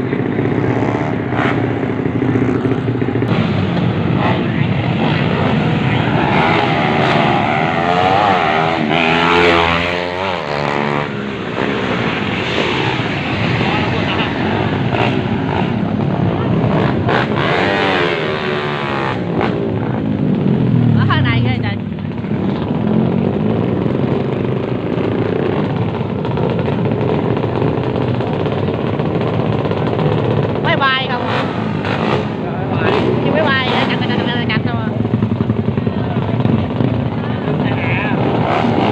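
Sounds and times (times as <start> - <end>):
motorbike engines revving: 0.0 - 38.9.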